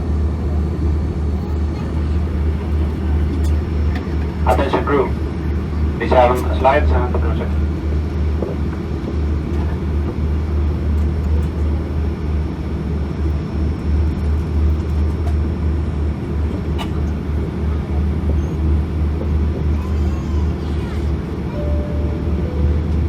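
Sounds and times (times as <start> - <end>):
aircraft cabin rumble: 1.2 - 23.0.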